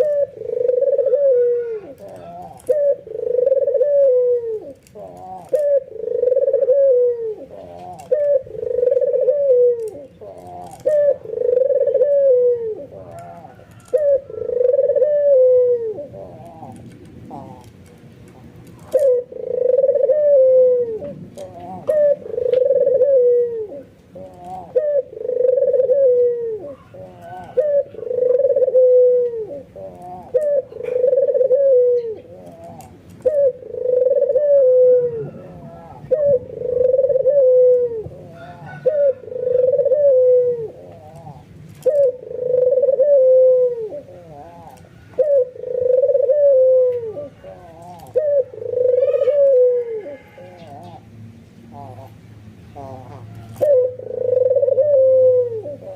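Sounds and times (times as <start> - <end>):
dove cooing: 0.0 - 55.9.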